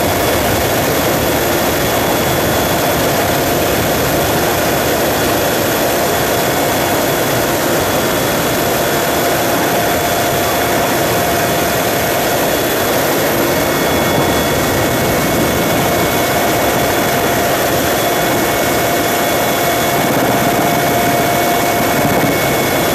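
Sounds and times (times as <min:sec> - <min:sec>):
faint steady whine: 0:00.0 - 0:22.9
helicopter engine and rotor: 0:00.0 - 0:22.9.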